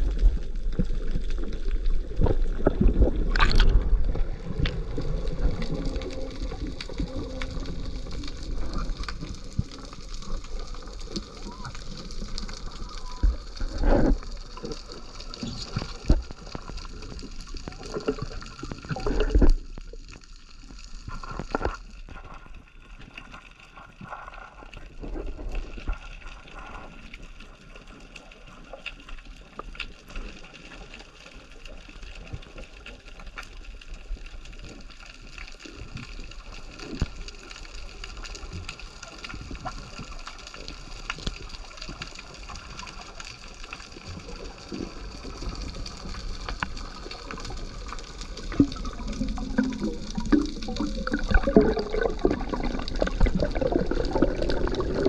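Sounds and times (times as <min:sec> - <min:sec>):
underwater water rushing and gurgling: 0:00.0 - 0:55.0.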